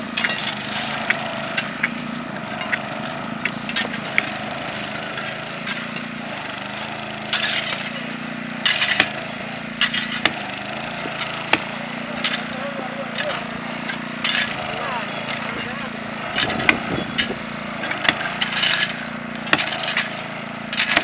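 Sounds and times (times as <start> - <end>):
small petrol engine running: 0.0 - 21.0
sledgehammer striking steel chisel: 0.2 - 21.0.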